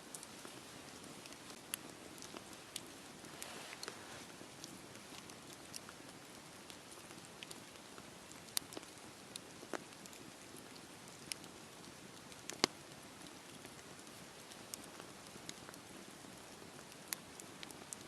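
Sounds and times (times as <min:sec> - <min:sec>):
fire crackling and popping: 0:00.0 - 0:18.0
campfire hissing: 0:00.1 - 0:18.0.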